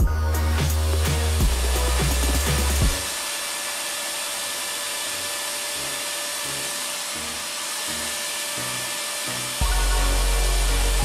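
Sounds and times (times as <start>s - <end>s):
cooling fan whooshing: 0.0s - 11.0s.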